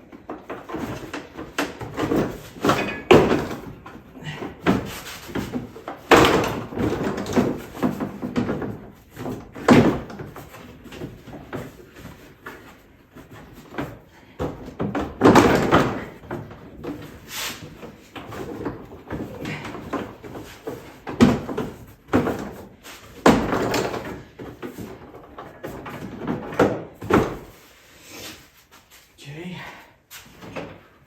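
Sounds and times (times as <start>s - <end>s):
parts and tools clattering: 0.0s - 27.8s.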